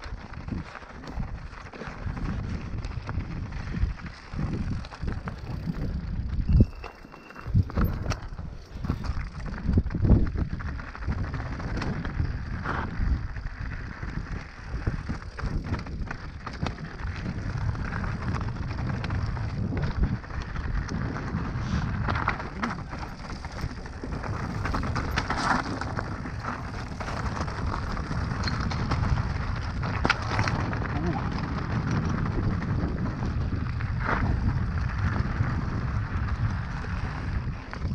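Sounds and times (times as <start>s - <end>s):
bike rattling: 0.0s - 37.9s
bike tyres on dirt and stones: 0.0s - 37.9s.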